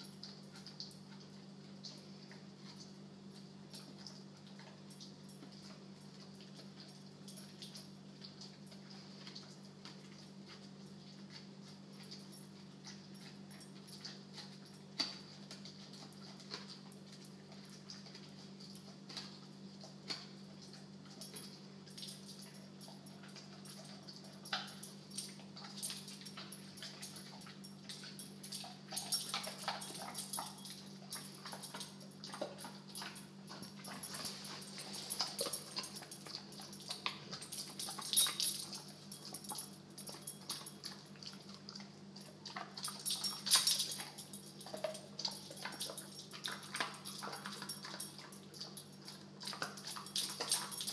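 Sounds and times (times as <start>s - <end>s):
dog chewing: 0.0s - 50.9s.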